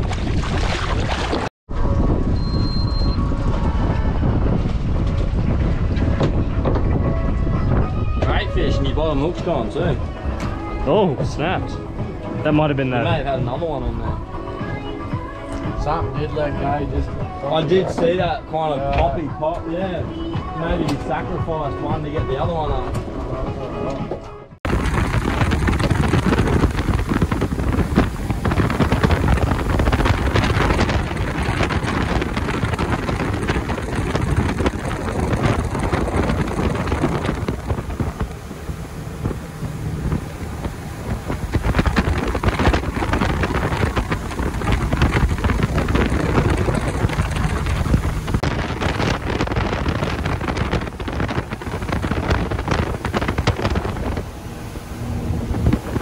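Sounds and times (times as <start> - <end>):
boat running through water: 0.0 - 18.3, 24.6 - 56.0
wind buffeting microphone: 0.0 - 23.2, 24.6 - 56.0.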